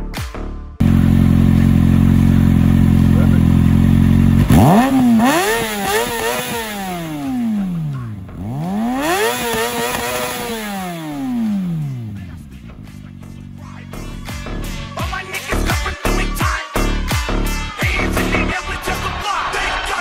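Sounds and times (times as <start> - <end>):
motorcycle engine idling and revving: 0.8 - 18.6.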